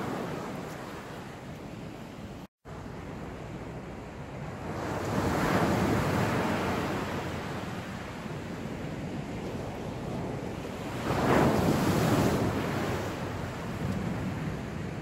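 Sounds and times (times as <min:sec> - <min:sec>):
surf washing: 0:00.0 - 0:15.0
waves breaking on beach: 0:00.0 - 0:15.0.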